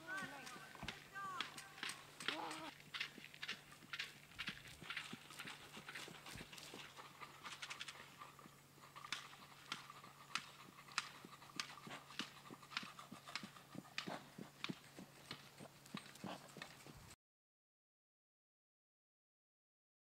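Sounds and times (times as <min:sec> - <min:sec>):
horse hoofbeats on grass: 0:00.0 - 0:17.2.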